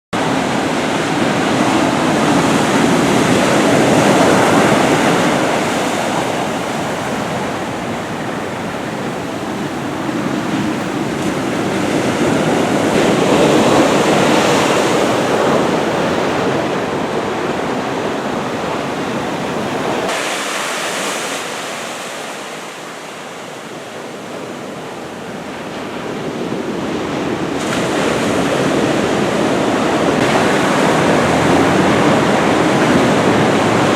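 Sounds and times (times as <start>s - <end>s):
ocean waves breaking: 0.2s - 33.9s.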